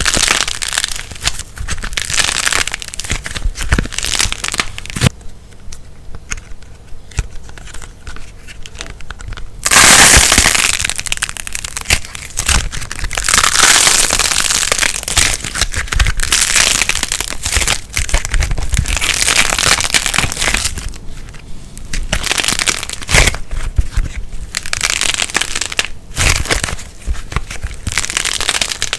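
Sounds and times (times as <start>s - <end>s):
slime crackling and popping: 0.0s - 5.1s, 7.1s - 28.9s.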